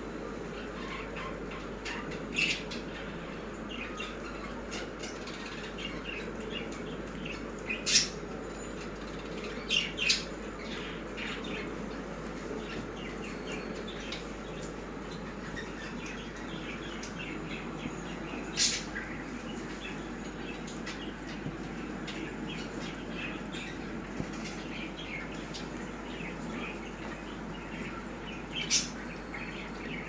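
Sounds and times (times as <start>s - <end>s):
pigeons chirping: 0.1s - 30.0s.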